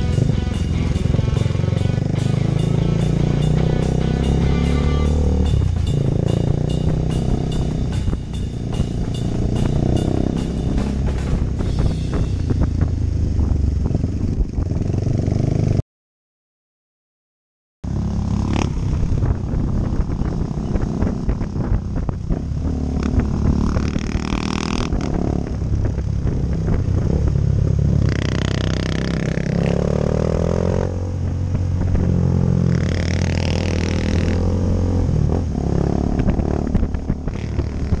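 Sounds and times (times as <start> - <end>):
motorcycle engine running: 0.0 - 15.8, 17.9 - 38.0.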